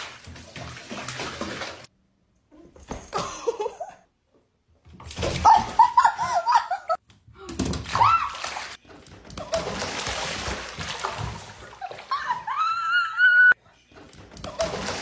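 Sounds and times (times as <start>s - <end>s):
water splashing in bathtub: 0.0s - 2.0s, 4.8s - 15.0s.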